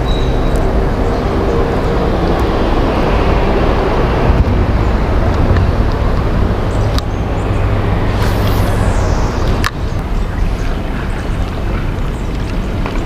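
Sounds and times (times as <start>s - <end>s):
traffic rumble on bridge overhead: 0.0s - 13.0s.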